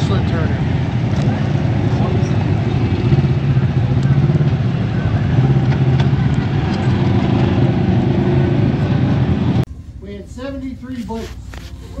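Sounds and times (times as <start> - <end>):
vehicle engine droning: 0.0 - 9.9.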